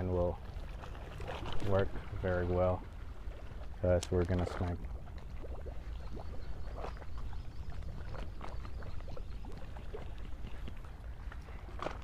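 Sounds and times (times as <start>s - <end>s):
waves lapping against seawall: 0.0s - 12.0s
wind rumble on microphone: 0.0s - 12.0s.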